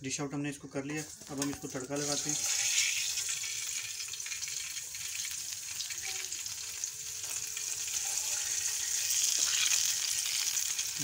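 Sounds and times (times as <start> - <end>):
hot oil sizzling and crackling: 0.7 - 11.0.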